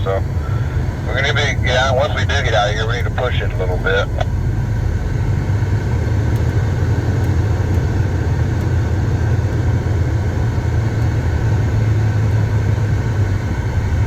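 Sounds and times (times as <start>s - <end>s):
diesel truck engine drone: 0.0s - 14.0s.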